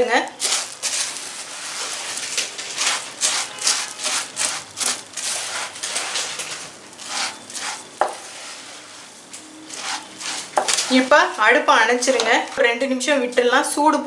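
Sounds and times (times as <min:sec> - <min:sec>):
wooden spatula scraping a pan: 0:00.4 - 0:12.8.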